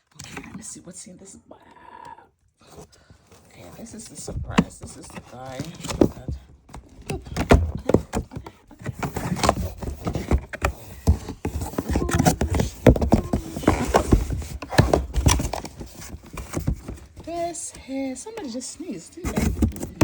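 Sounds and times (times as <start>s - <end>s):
packaging rustling and crinkling: 3.3s - 20.0s.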